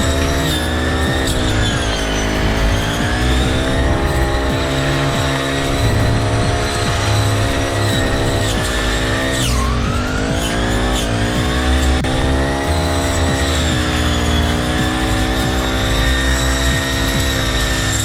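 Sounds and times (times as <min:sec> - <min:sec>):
grass cutter engine running: 0:00.0 - 0:18.0.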